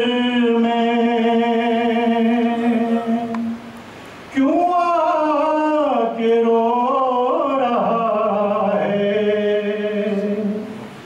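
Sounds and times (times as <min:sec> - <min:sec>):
man singing unaccompanied: 0:00.0 - 0:03.7, 0:04.3 - 0:11.0.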